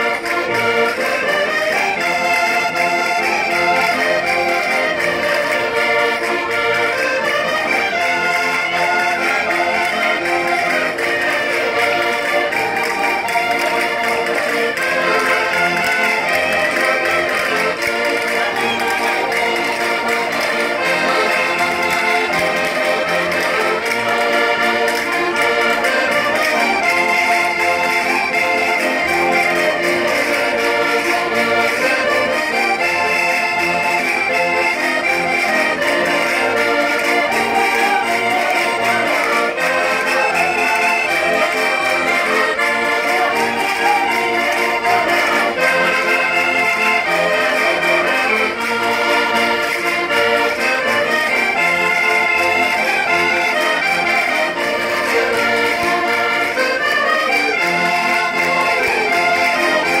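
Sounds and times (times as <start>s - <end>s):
button accordions playing: 0.0s - 60.0s.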